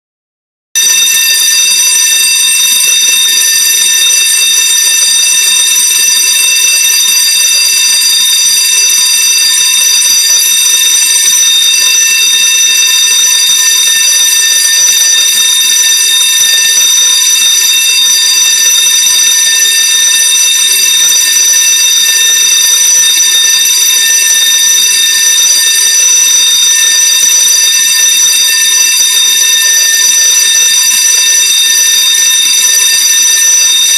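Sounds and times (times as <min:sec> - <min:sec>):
fire alarm bell ringing: 0:00.8 - 0:33.9.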